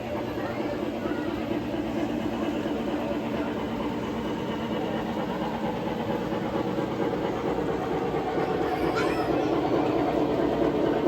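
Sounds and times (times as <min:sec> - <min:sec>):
model trains running on track: 0:00.0 - 0:11.0.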